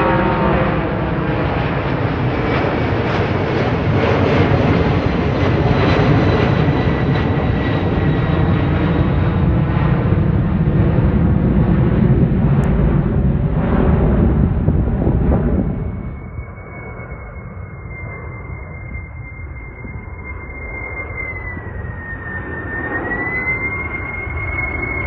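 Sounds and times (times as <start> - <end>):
faint engine whine: 0.0 - 25.0
jet engines roaring: 0.0 - 25.0.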